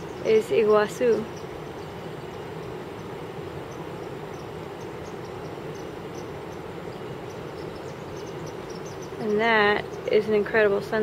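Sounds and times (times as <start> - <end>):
distant waterfall roar: 0.0 - 11.0
insects chirping: 0.0 - 11.0.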